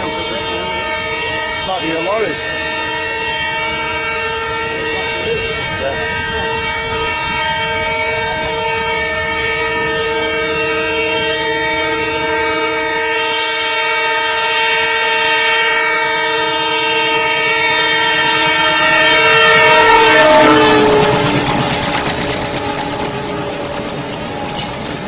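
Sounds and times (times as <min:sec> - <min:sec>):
locomotive horn blast: 0:00.0 - 0:25.0.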